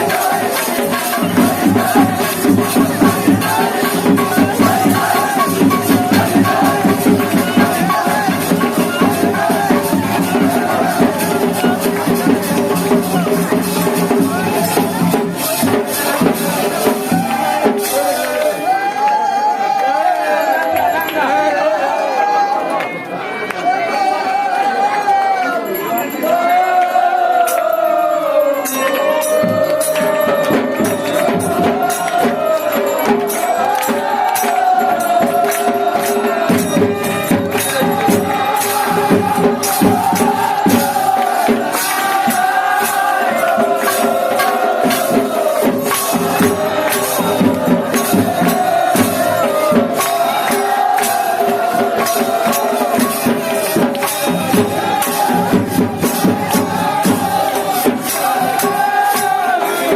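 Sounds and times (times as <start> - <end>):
rapid clashing percussion: 0.0 - 21.6, 25.7 - 59.9.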